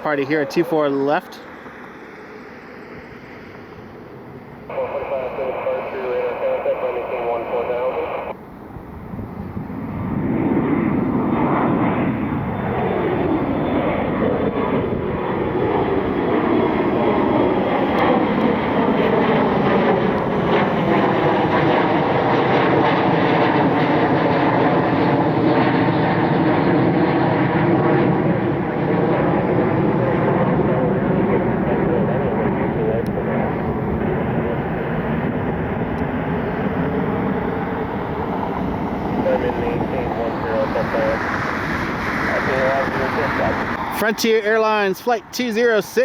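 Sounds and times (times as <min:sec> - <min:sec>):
jet engines at takeoff power: 0:00.0 - 0:46.0.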